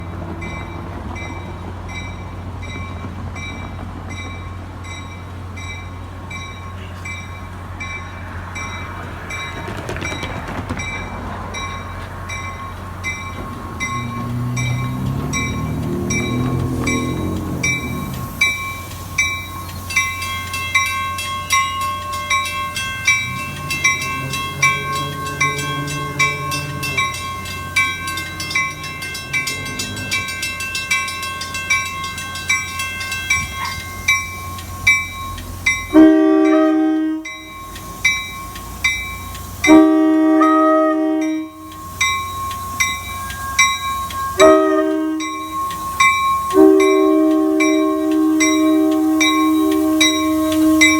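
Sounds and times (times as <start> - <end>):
diesel locomotive drone: 0.0 - 50.9.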